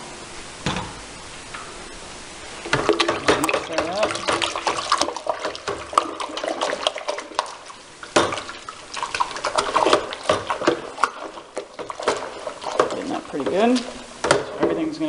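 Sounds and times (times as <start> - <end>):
water splashing: 2.4 - 15.0
spoon stirring water in bucket: 2.6 - 15.0.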